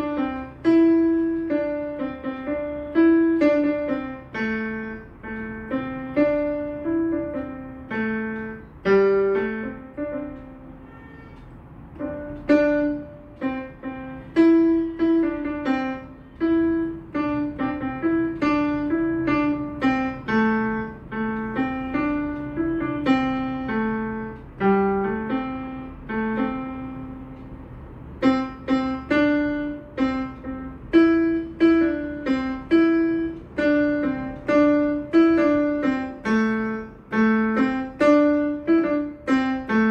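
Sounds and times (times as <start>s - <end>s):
keyboard piano melody: 0.0s - 39.9s.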